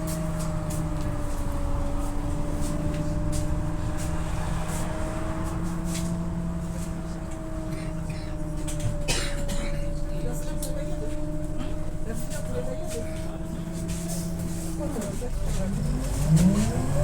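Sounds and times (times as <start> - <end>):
bus drivetrain whine: 0.0 - 17.0
low road rumble: 0.0 - 17.0.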